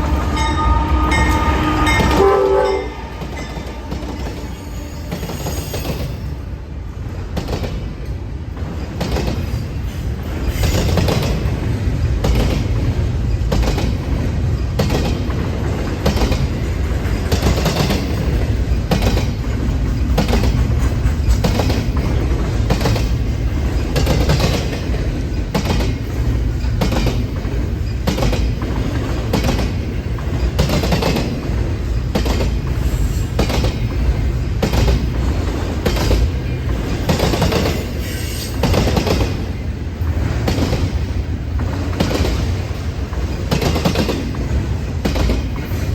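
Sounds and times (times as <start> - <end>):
freight train rumbling: 0.0 - 45.9
wheels clacking over rail joints: 7.3 - 45.9.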